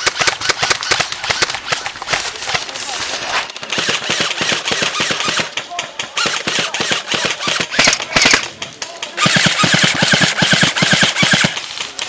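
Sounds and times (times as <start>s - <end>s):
airsoft guns firing: 0.0s - 12.0s.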